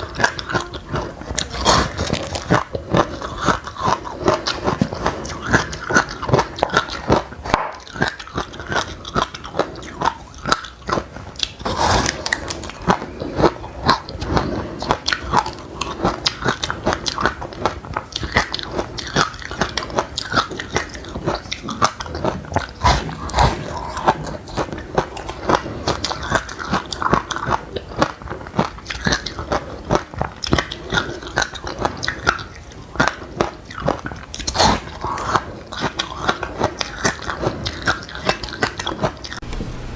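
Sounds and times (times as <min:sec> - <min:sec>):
crunchy chewing: 0:00.0 - 0:39.4.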